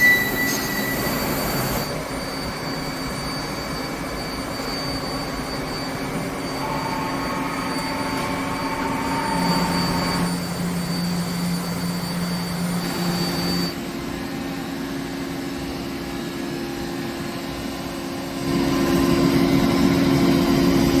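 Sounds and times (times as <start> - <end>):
shop machinery whining: 0.0 - 21.0.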